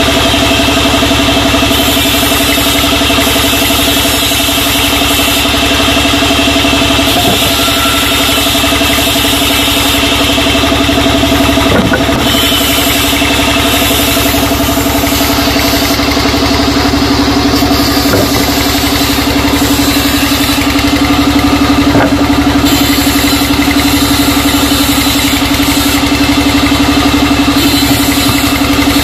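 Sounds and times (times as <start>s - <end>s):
band saw machinery humming: 0.0s - 29.0s.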